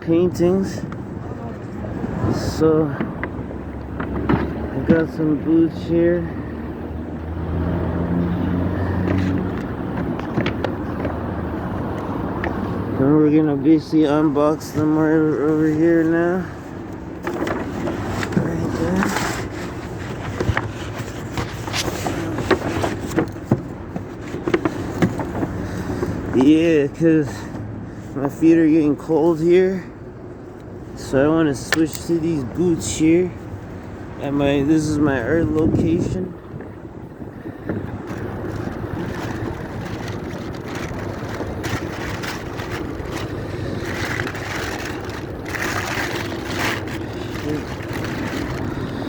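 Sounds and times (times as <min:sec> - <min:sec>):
city street traffic hum: 0:00.0 - 0:49.0
handling noises: 0:07.6 - 0:49.0.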